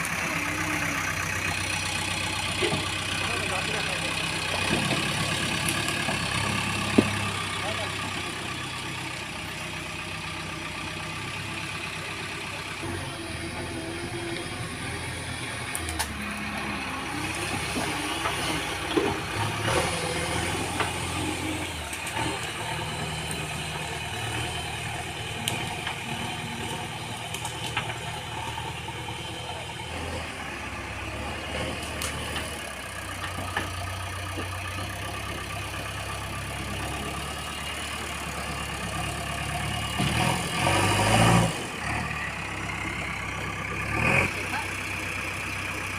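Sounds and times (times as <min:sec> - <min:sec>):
heavy diesel engines running: 0:00.0 - 0:45.9.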